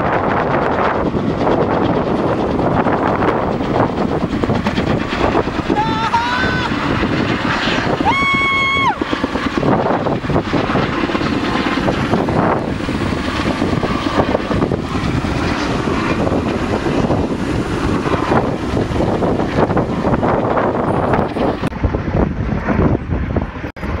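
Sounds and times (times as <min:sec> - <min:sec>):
helicopter rotor and engine: 0:00.0 - 0:24.0
wind on microphone: 0:00.0 - 0:24.0.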